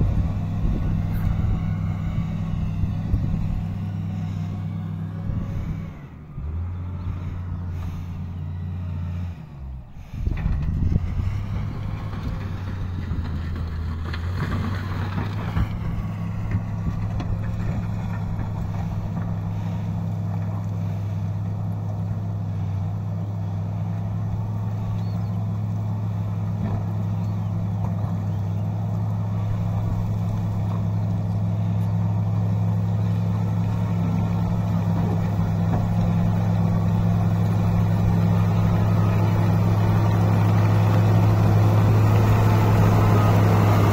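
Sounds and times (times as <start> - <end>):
pushing soil and asphalt: 0.0 - 43.9
wheel loader diesel engine: 0.0 - 43.9.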